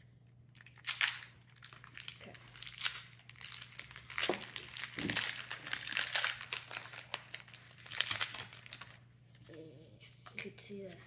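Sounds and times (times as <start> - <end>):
foil wrapper crinkling: 0.5 - 9.6.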